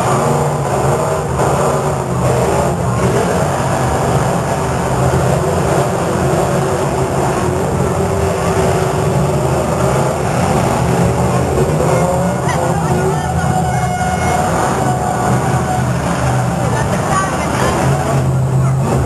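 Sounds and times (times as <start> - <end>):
car engines running and revving: 0.0 - 19.0.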